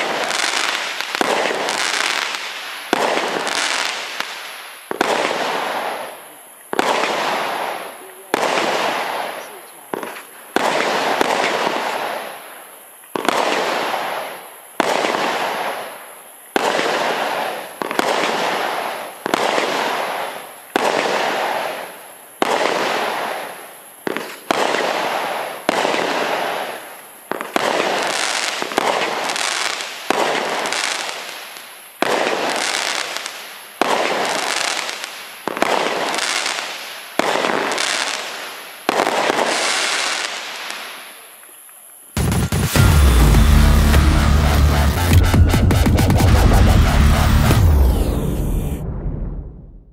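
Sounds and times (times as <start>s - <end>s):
firework bangs with crackle: 0.0s - 41.2s, 42.1s - 49.9s.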